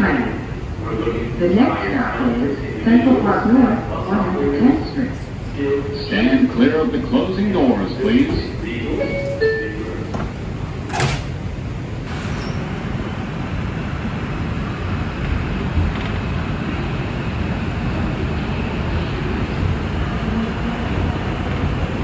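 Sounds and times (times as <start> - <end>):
subway doors shutting: 0.0 - 22.0
train rumble and wheel noise: 0.0 - 22.0.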